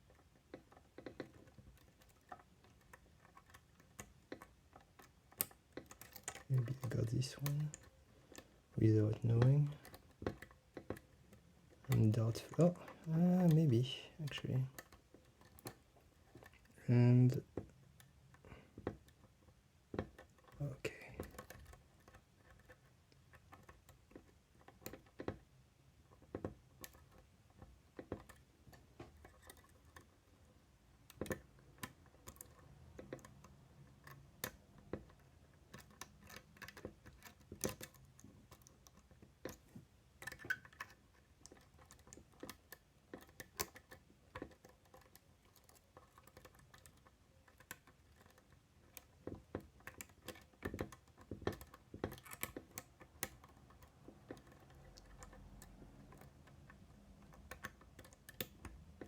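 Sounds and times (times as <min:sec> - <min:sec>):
lock pick clicking and scraping: 0:00.0 - 0:59.0.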